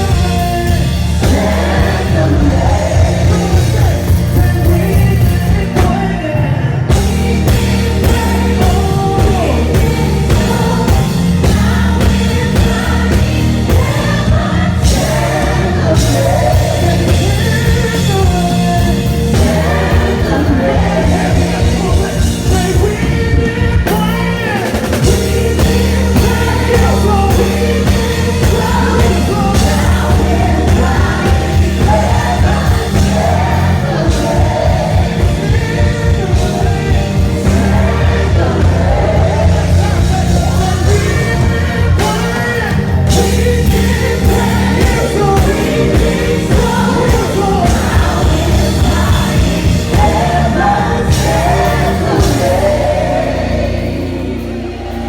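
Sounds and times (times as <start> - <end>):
gospel worship music: 0.0 - 55.0
voices singing: 0.0 - 55.0.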